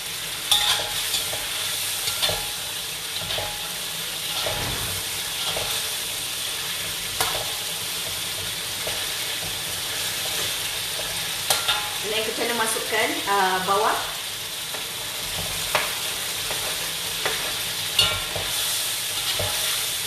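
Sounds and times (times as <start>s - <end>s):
sauce sizzling in hot oil: 0.0s - 20.0s.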